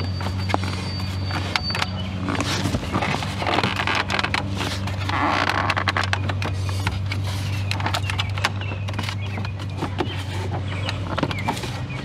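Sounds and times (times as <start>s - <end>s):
plastic trim clicks and scrapes: 0.3s - 11.8s.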